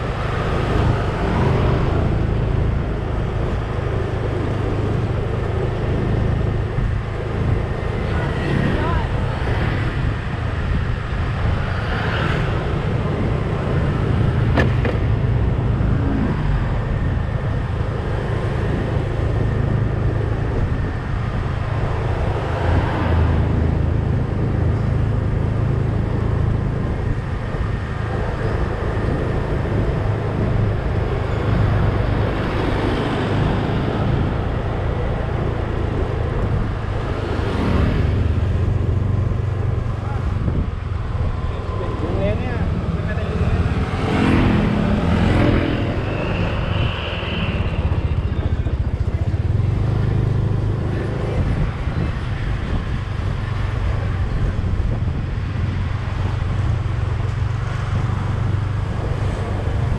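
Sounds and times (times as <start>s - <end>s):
passing traffic: 0.0s - 59.9s
road noise: 0.0s - 59.9s
vehicle engine drone: 0.0s - 59.9s.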